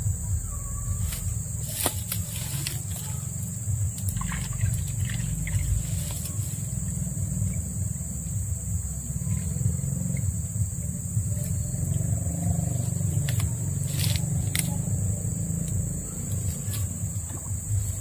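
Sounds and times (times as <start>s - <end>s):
insects droning: 0.0s - 18.0s
uneven low rumble: 0.0s - 18.0s.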